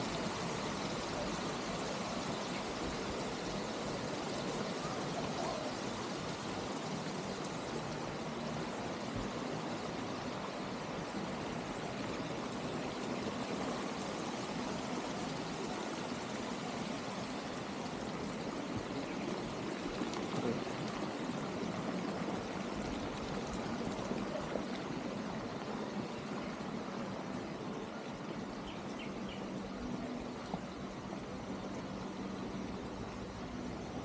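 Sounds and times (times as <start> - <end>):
water pouring and splashing: 0.0 - 28.2.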